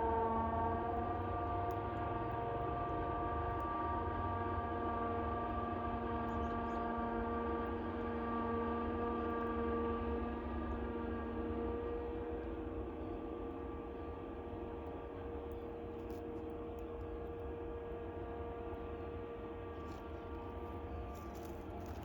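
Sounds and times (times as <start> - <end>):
hum of held tones: 0.0 - 22.0.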